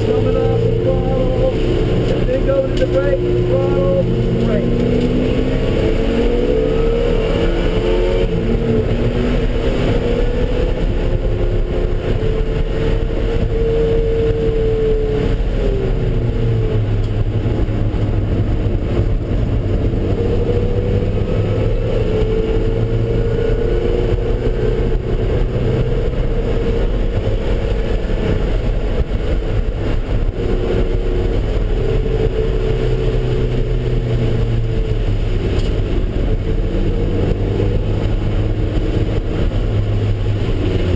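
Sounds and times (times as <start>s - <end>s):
engine accelerating and braking: 0.0s - 40.9s
road and wind noise: 0.0s - 40.9s.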